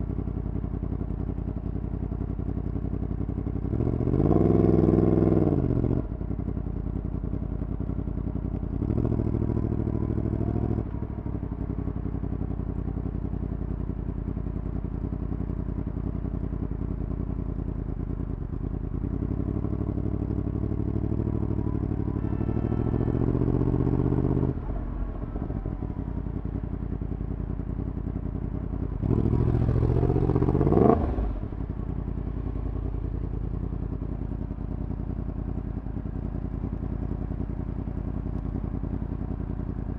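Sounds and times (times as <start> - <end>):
motorcycle engine revving: 0.9 - 39.9.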